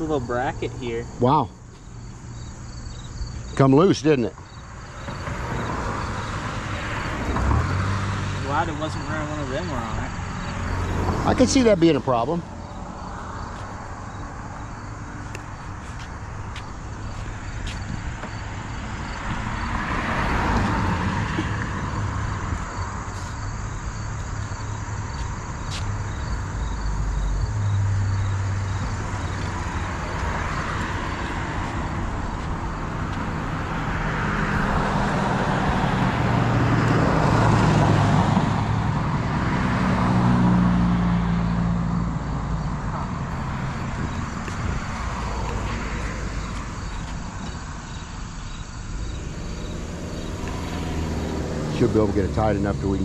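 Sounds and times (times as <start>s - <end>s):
cars passing by: 0.0s - 53.0s
engine hum: 0.0s - 53.0s.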